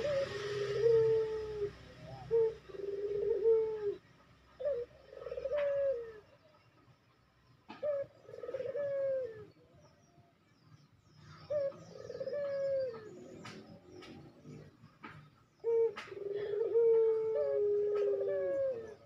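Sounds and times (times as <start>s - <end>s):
dove cooing: 0.0s - 6.4s, 7.7s - 9.7s, 11.2s - 19.0s.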